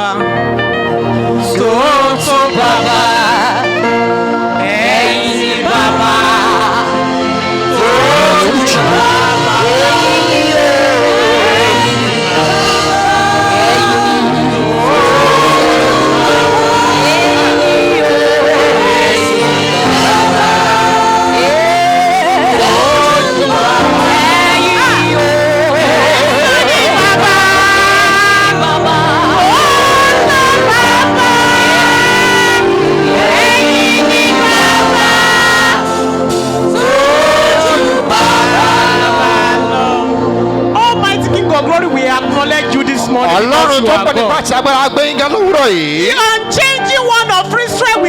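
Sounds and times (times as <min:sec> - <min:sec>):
lead singer singing: 0:00.0 - 0:46.9
congregation singing: 0:00.0 - 0:48.0
keyboard chords: 0:00.0 - 0:48.0.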